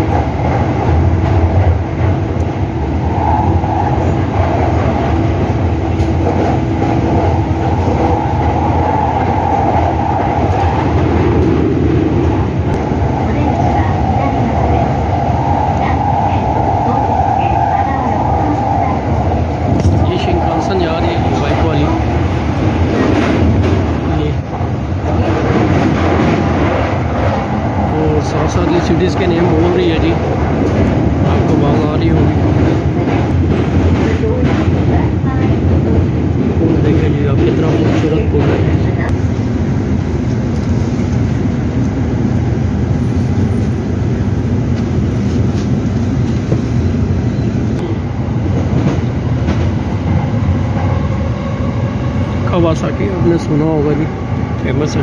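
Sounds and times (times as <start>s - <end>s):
train passing alongside: 0.0s - 55.0s
train running rumble: 0.0s - 55.0s.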